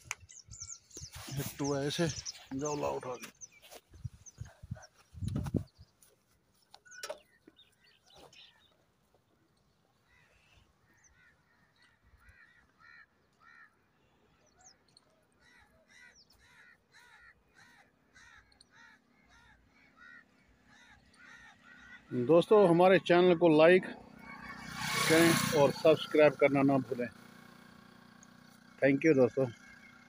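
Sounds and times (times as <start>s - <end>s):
faint repeated bird calls: 0.0s - 30.0s.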